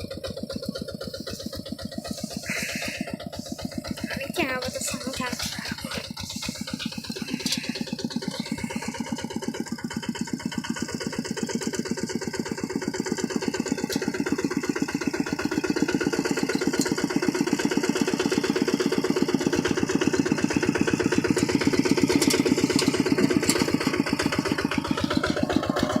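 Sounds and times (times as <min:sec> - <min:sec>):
diesel engine rapid firing: 0:00.0 - 0:26.0.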